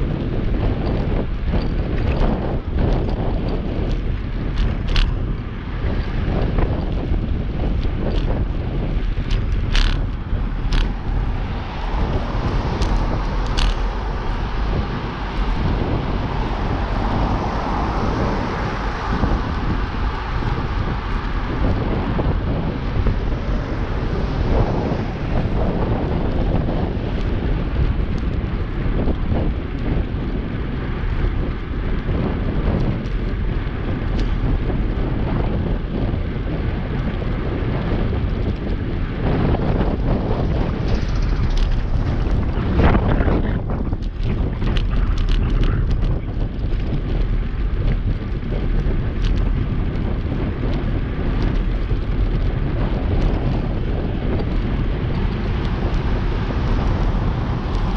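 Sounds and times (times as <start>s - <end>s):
road traffic: 0.0s - 57.9s
wind buffeting microphone: 0.0s - 57.9s.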